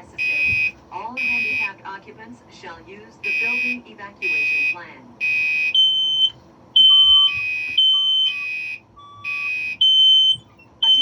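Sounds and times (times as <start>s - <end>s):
buzzy alarm horn: 0.2s - 1.7s, 3.2s - 11.0s.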